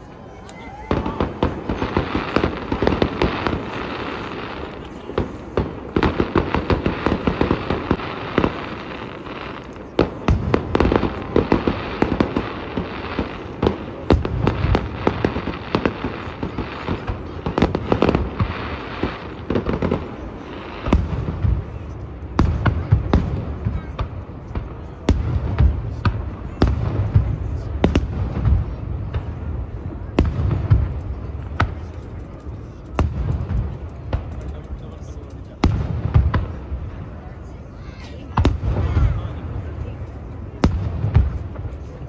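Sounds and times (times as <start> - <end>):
fireworks bursting and crackling: 0.0 - 42.0.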